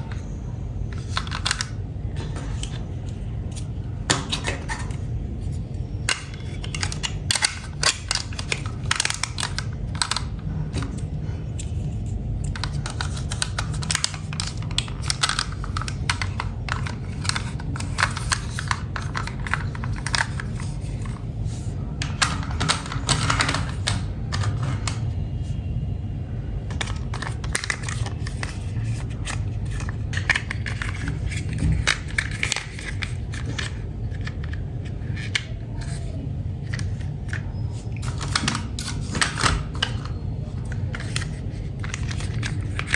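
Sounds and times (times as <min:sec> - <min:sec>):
steady low hum: 0:00.0 - 0:42.9
plastic toy pieces clattering: 0:00.9 - 0:02.8, 0:06.0 - 0:11.0, 0:11.6 - 0:25.0, 0:26.7 - 0:42.9.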